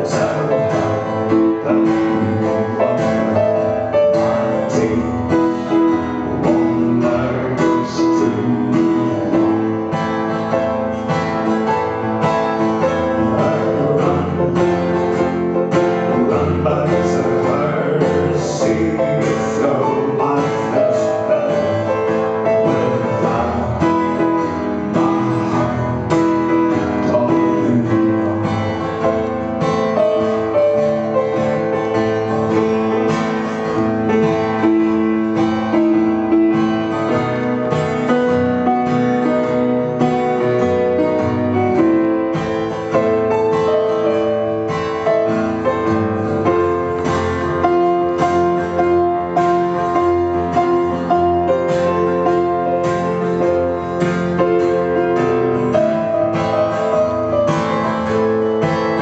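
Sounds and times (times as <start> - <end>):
live band playing piano and guitar: 0.0 - 59.0.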